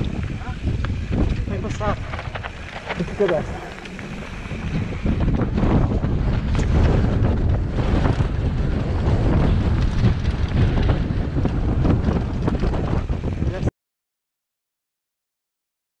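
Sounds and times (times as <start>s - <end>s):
bike knocks and rattles: 0.0s - 13.4s
wind buffeting microphone: 0.0s - 13.7s.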